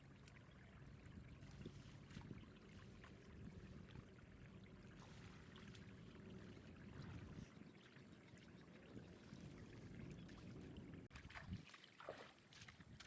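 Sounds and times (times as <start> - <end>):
water trickling and sloshing: 0.0 - 13.0.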